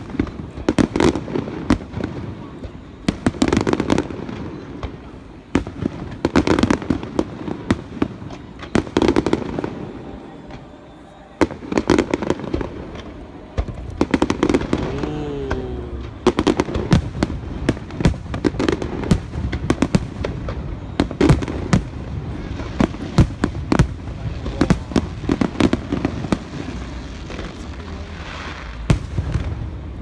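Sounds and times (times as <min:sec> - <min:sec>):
crackling firework pops: 0:00.0 - 0:10.7, 0:11.4 - 0:15.0, 0:16.0 - 0:30.0.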